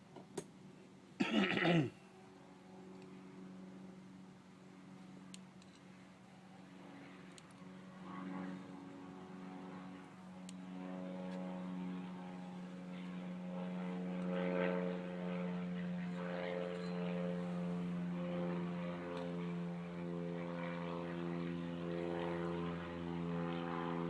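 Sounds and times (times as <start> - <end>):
motor droning: 2.1 - 24.0.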